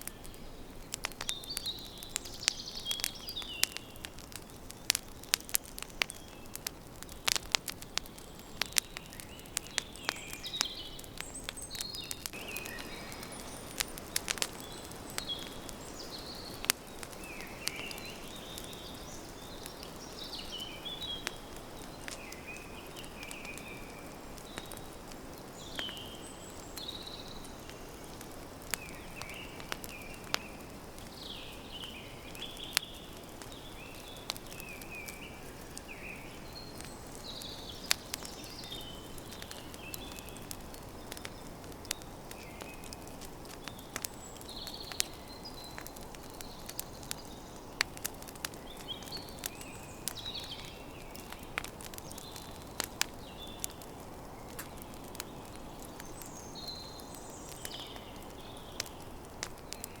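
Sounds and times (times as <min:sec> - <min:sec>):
campfire crackling and popping: 0:00.0 - 1:00.0
small birds chirping: 0:00.0 - 1:00.0.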